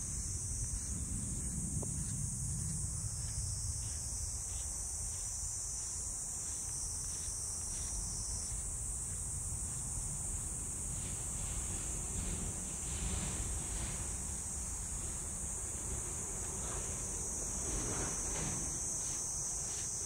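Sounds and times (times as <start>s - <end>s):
chorus of crickets: 0.0s - 20.0s.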